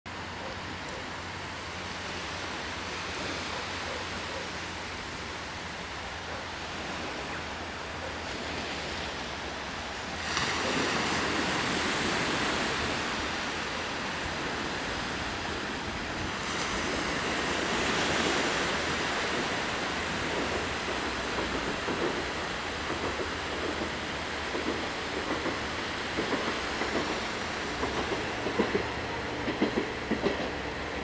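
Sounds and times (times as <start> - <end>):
small waves breaking on beach: 0.1 - 29.2.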